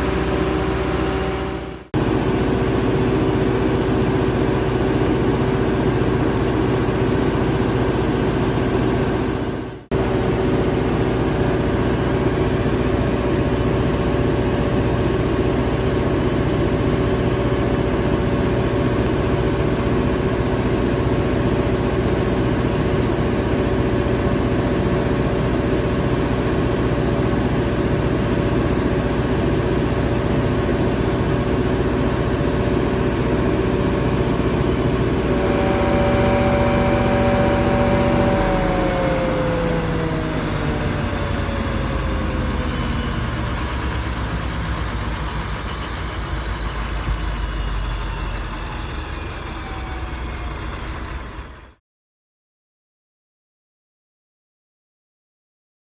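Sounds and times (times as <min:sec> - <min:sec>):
diesel generator running: 0:00.0 - 0:51.8.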